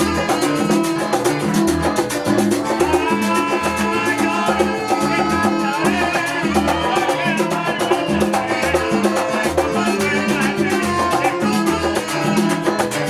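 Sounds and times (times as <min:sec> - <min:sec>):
latin dance music: 0:00.0 - 0:13.0.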